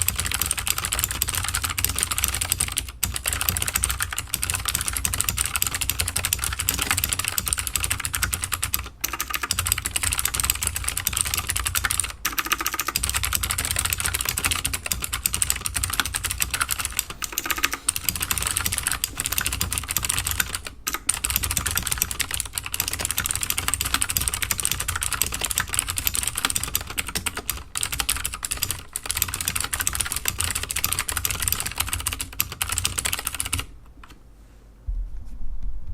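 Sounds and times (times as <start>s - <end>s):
typing on clicky mechanical keyboard: 0.0s - 33.7s.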